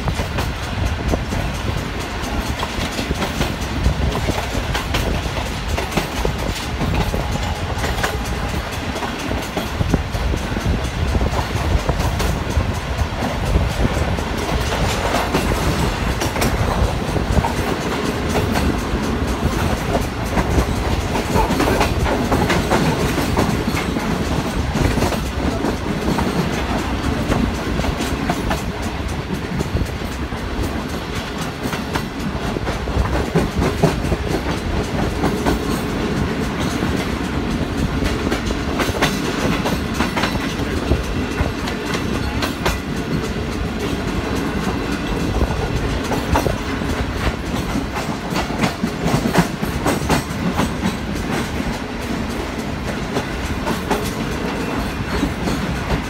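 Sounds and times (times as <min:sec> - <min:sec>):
train coach rumbling: 0:00.0 - 0:56.0
wheels clacking over rail joints: 0:00.0 - 0:56.0.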